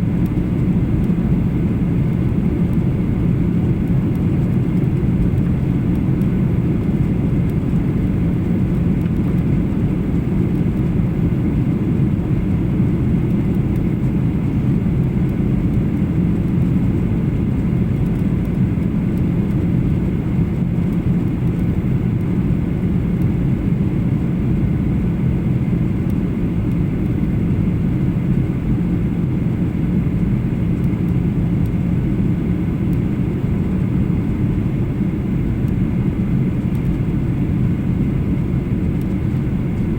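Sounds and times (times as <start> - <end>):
airplane cabin engine drone: 0.0 - 39.9
faint steady hum: 0.0 - 39.9.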